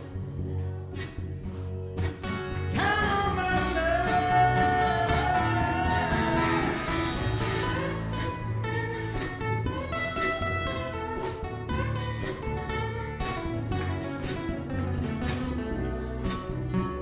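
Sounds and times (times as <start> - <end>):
acoustic guitars playing: 0.0 - 17.0
double bass: 0.0 - 17.0.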